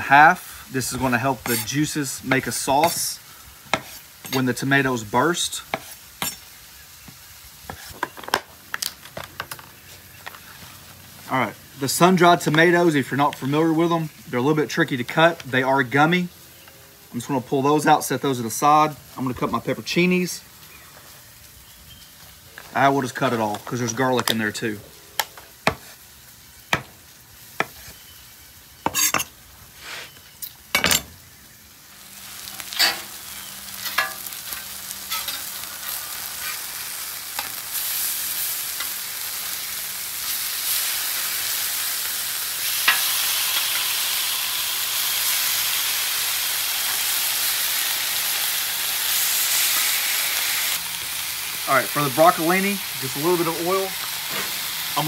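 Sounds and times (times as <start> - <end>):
chicken sizzling on griddle: 0.0 - 55.0.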